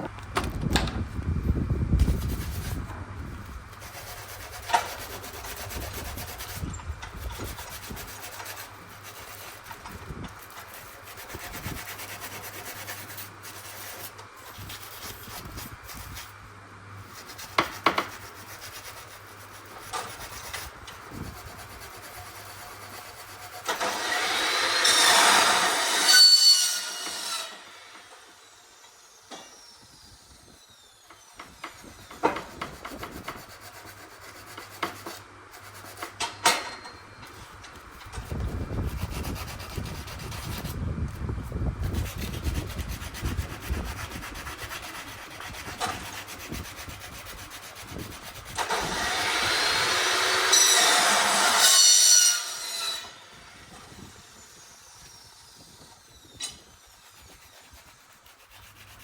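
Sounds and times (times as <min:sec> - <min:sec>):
tool cutting and scraping material: 0:02.0 - 0:16.4, 0:17.0 - 0:59.0.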